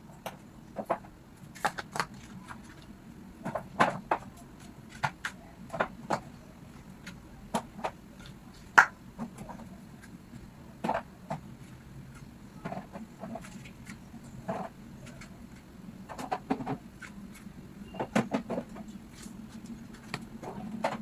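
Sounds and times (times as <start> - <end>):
groceries and containers handled: 0.1 - 21.0.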